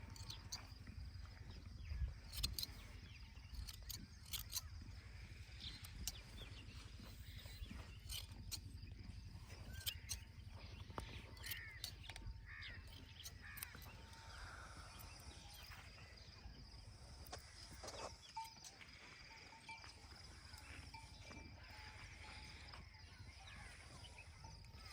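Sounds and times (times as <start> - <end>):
bird calls: 0.0 - 24.9.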